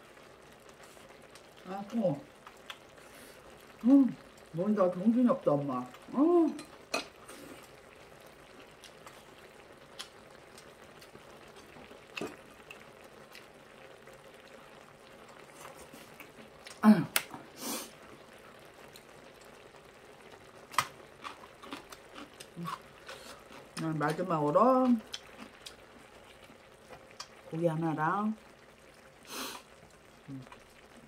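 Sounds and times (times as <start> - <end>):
food simmering in a pan: 0.0 - 31.0.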